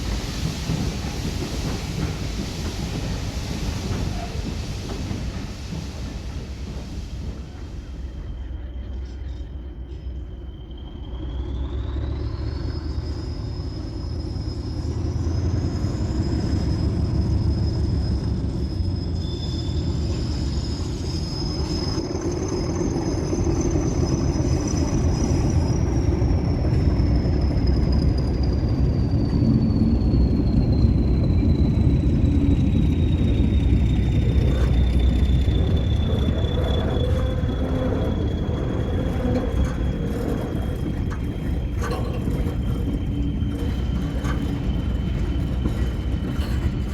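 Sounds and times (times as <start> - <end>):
locomotive engine rumble: 0.0 - 46.9.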